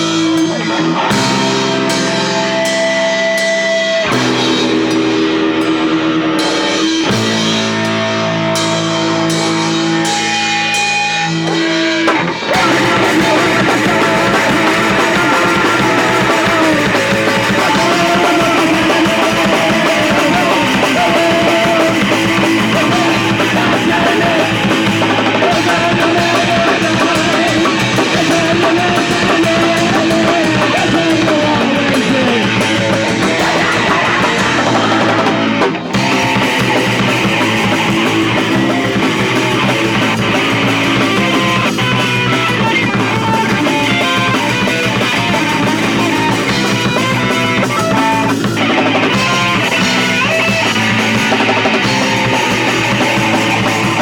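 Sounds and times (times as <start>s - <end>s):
punk rock band playing live: 0.0s - 54.0s.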